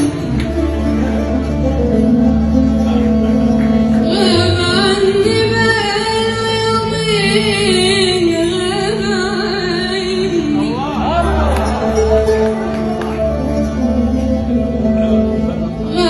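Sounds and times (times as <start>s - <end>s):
oud violin and keyboard: 0.0s - 16.0s.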